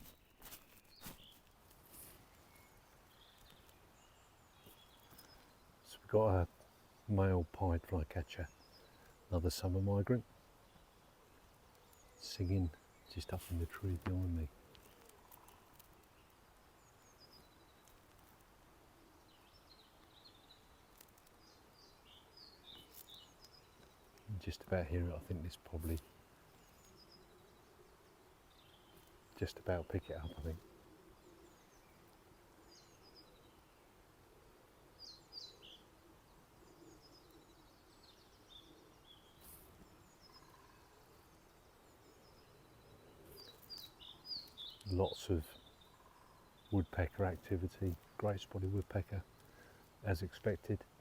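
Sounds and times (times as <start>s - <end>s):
bird singing faintly: 0.0s - 51.0s.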